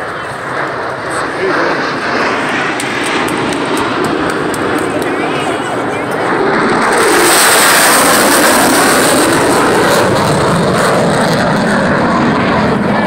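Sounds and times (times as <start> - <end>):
fighter jet low pass: 0.0 - 13.0.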